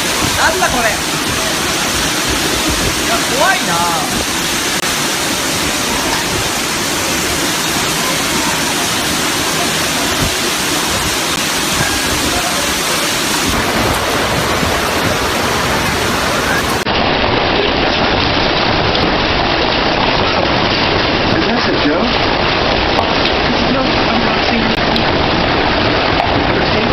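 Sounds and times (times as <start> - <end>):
heavy hail and rain storm: 0.0 - 26.9.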